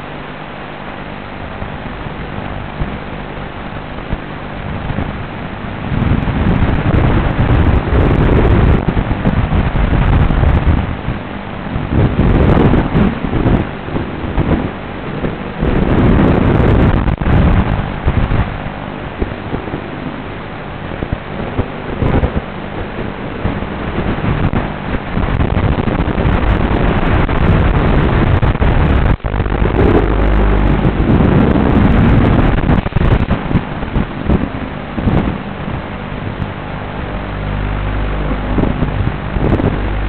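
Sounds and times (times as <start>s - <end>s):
drone propellers rushing: 1.3s - 40.0s
wind buffeting: 1.6s - 40.0s.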